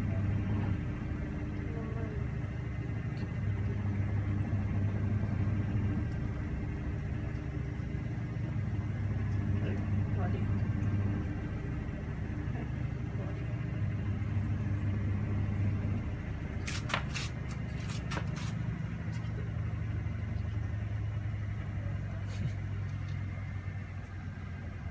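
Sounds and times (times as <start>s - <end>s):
vehicle engine idling: 0.0s - 24.9s.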